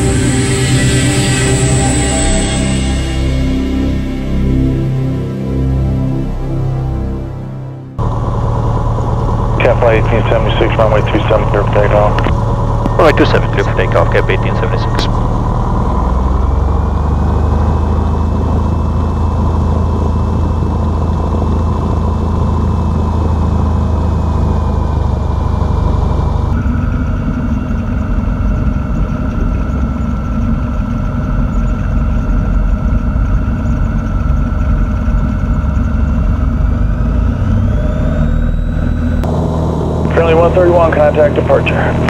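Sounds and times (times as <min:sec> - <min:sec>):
airplane engine and propeller: 0:00.0 - 0:42.0.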